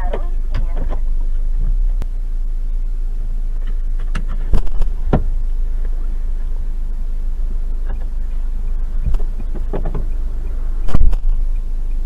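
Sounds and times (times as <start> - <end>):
low rumble of stopped car: 0.0 - 12.0.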